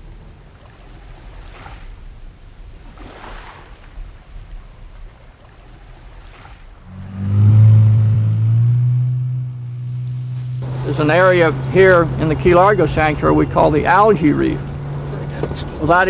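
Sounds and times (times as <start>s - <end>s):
motorboat engine passing: 0.0s - 16.0s
water washing: 0.0s - 16.0s.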